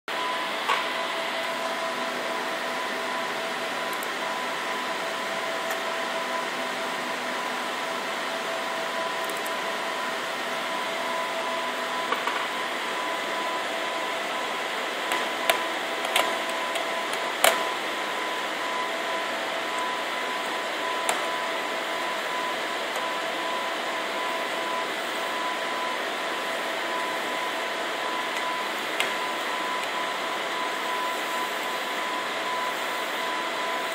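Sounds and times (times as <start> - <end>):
fan-like hum with whining tones: 0.1 - 33.9.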